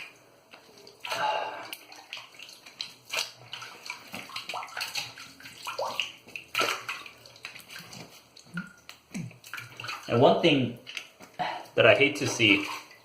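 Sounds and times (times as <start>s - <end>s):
water splashing: 0.6s - 13.0s.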